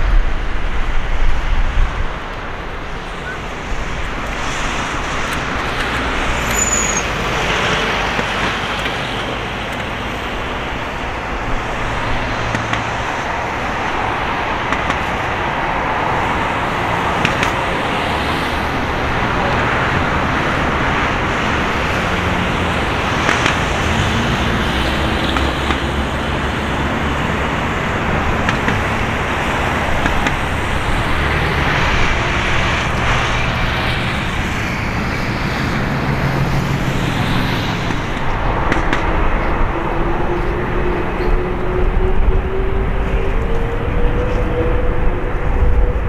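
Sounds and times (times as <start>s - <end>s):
jet engine rumble and hiss: 0.0s - 46.0s
rising jet engine whine: 0.0s - 46.0s.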